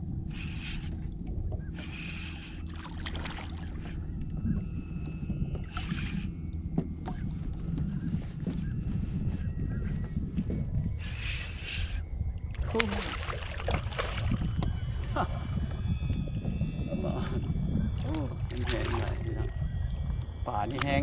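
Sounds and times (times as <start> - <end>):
wind buffeting microphone: 0.0 - 21.0
water splashing against hull: 0.3 - 9.3, 12.4 - 21.0.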